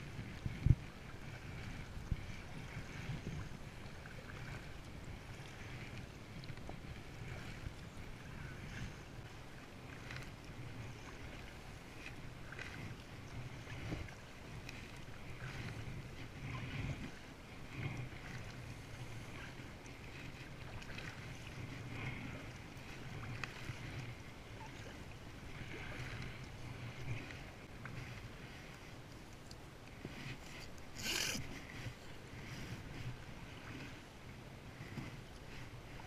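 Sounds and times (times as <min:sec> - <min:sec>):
paddle strokes splashing: 0:00.0 - 0:36.0
water washing around kayak: 0:00.0 - 0:36.0.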